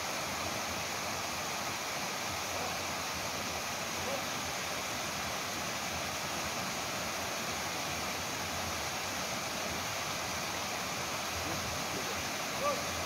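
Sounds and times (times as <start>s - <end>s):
stream water rushing over cascades: 0.0s - 13.0s.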